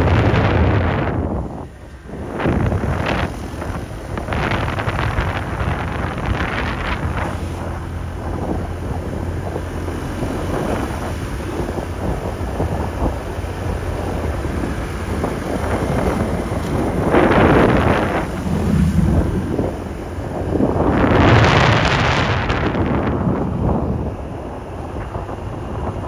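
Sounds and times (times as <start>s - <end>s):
scooter engine drone: 0.0s - 26.0s
wind buffeting microphone: 0.0s - 26.0s.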